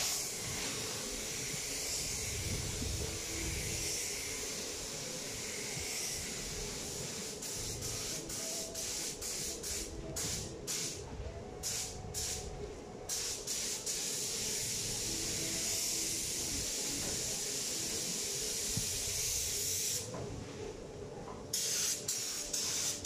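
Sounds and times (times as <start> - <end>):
paint spray gun hissing: 0.0 - 11.0, 13.1 - 20.1, 21.6 - 23.0.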